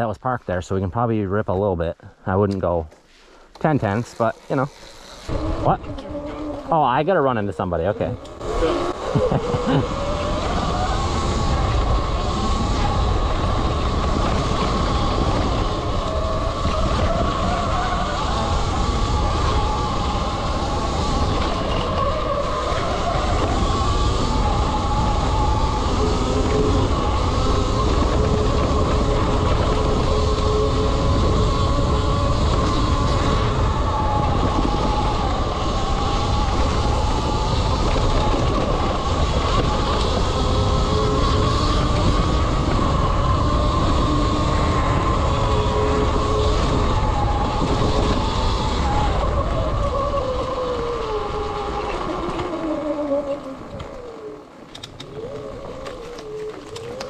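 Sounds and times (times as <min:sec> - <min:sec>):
bike rattling on rough ground: 0:02.8 - 0:57.0
electric motor whine: 0:03.6 - 0:57.0
wind buffeting microphone: 0:03.6 - 0:57.0.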